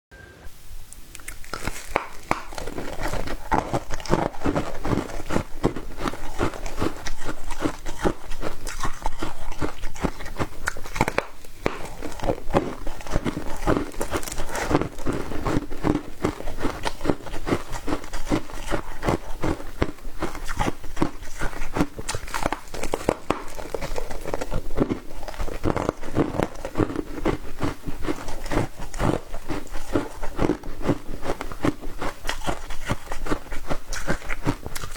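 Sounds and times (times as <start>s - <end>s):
ice being chewed: 1.1s - 34.9s.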